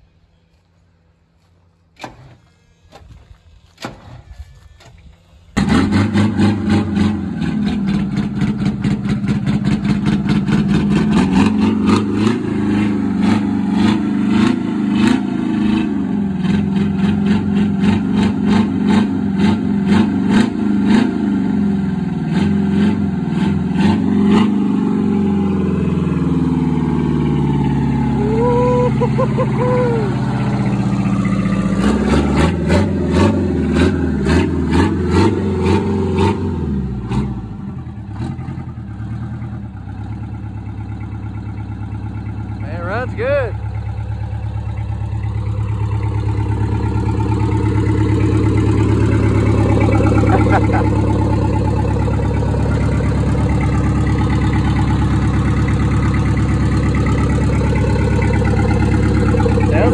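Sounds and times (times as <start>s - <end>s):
diesel truck engine revving: 5.4s - 59.9s.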